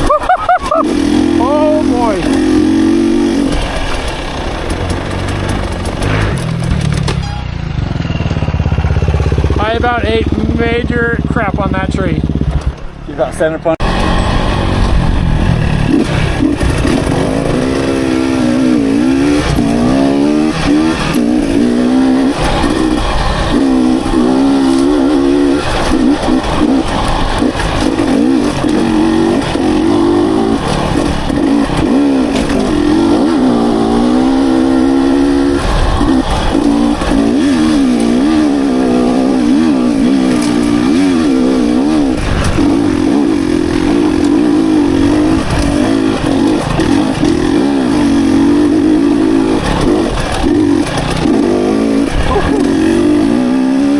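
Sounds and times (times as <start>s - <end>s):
dirt bike engine revving: 0.0s - 13.0s, 13.8s - 53.9s.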